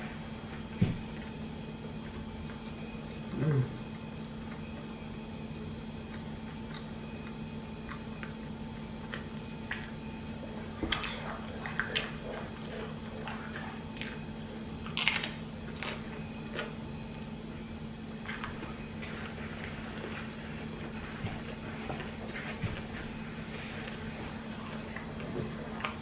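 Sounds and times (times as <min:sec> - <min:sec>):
wet chewing and crunching: 0:00.0 - 0:26.0.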